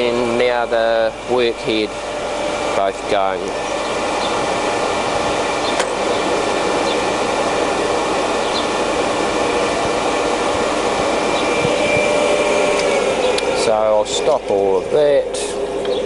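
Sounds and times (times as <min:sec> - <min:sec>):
grinding machine humming: 0:00.0 - 0:16.0.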